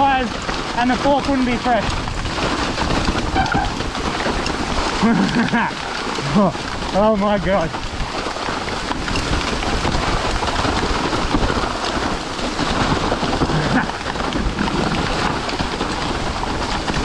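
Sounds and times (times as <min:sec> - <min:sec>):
low rumble: 0:00.0 - 0:15.4
heavy rain hissing: 0:00.0 - 0:17.0.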